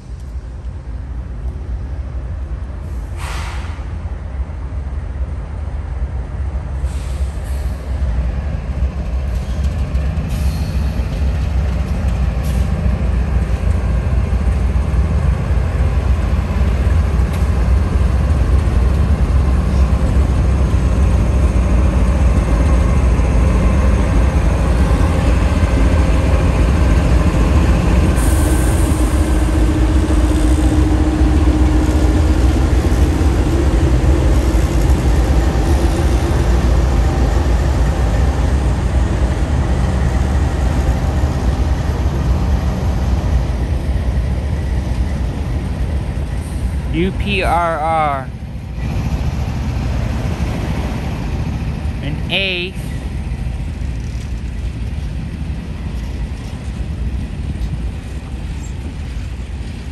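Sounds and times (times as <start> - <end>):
locomotive engine rumble: 0.0 - 59.9.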